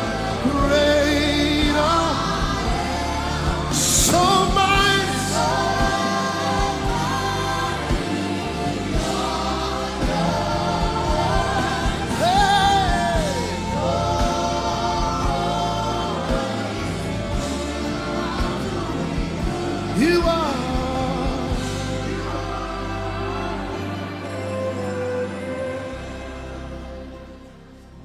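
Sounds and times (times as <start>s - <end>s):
gospel worship singing: 0.0s - 28.0s.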